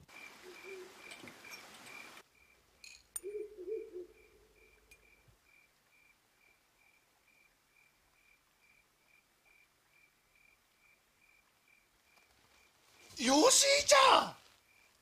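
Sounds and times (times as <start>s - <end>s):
cricket chirping: 0.0s - 13.8s, 14.4s - 15.0s.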